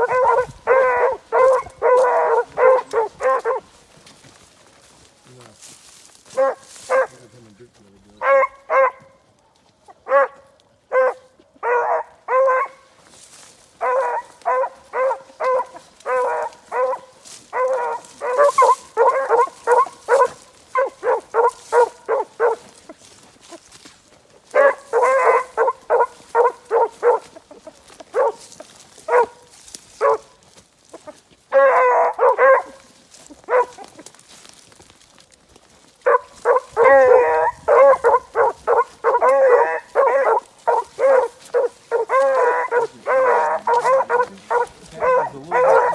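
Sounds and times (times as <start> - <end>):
hounds baying: 0.0 - 5.1, 6.0 - 7.4, 8.2 - 45.9.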